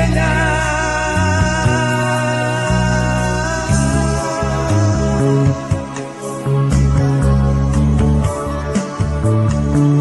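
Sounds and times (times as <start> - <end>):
bass line: 0.0 - 10.0
guitar: 0.0 - 10.0.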